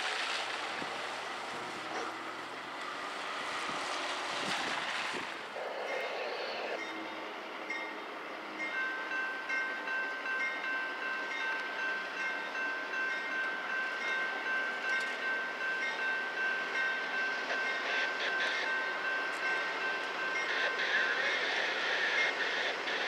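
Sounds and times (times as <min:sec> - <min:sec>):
freight train rumble: 0:00.0 - 0:23.0.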